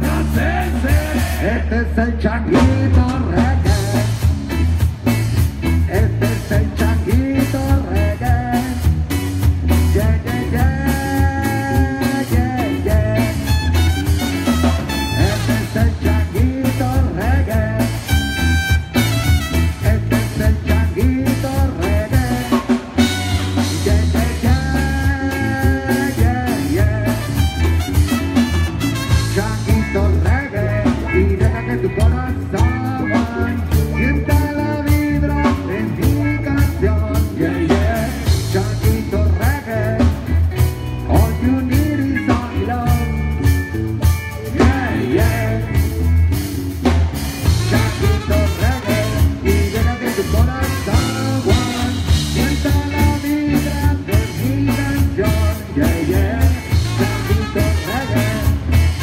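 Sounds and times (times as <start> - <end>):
live reggae band playing: 0.0 - 59.0.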